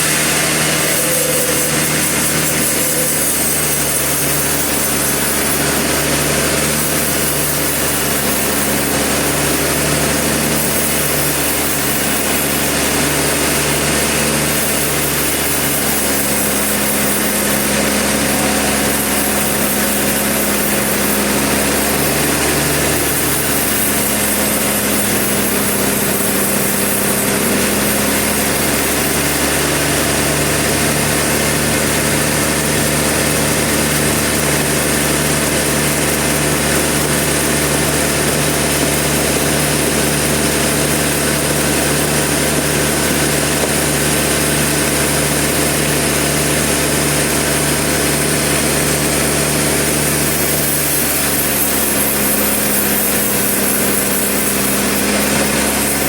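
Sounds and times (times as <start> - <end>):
sawmill engine humming: 0.0 - 56.0.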